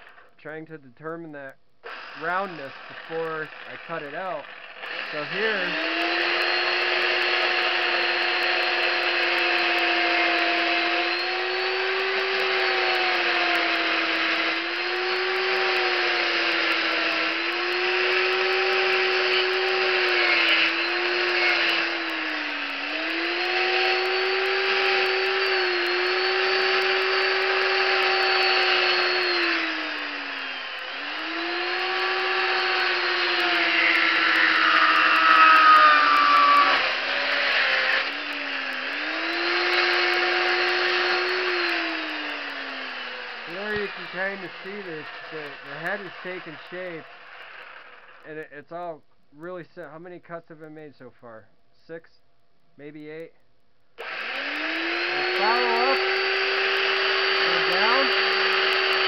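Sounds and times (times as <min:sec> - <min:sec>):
chainsaw cutting wood: 0:00.0 - 0:00.4, 0:01.8 - 0:48.3, 0:54.0 - 0:59.0.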